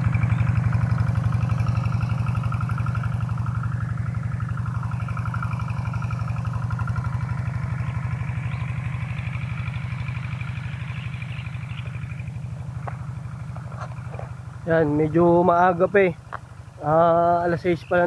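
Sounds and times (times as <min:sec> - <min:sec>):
small tractor engine running: 0:00.0 - 0:18.0.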